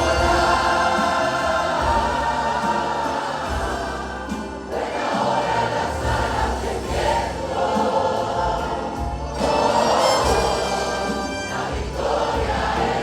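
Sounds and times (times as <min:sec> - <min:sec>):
church choir singing: 0:00.0 - 0:13.0
instrumental accompaniment: 0:00.0 - 0:13.0.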